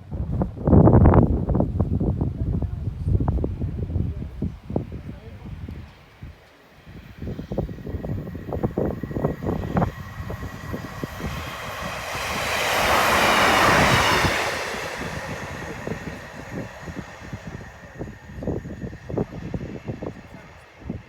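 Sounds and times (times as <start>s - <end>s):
wind buffeting microphone: 0.0s - 21.0s
train passing at speed: 0.2s - 21.0s.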